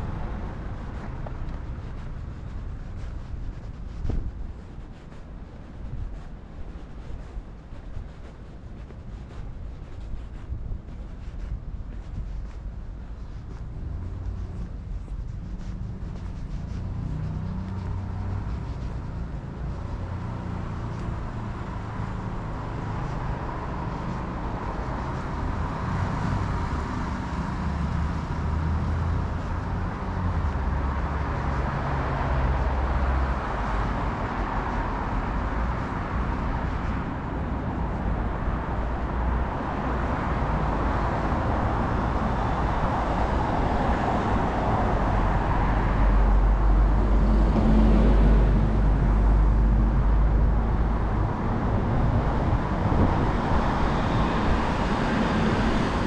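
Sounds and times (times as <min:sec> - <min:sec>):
rumble of cars passing: 0:00.0 - 0:56.0.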